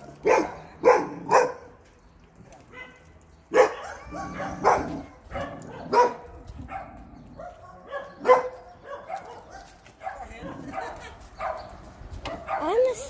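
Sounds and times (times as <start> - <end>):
dog barking: 0.2 - 1.7, 2.7 - 11.7, 12.3 - 12.9.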